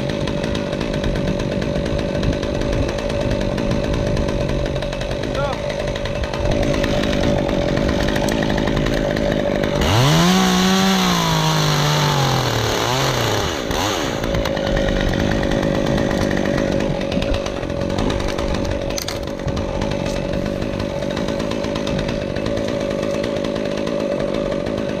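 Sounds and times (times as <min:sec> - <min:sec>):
chainsaw running: 0:00.0 - 0:25.0.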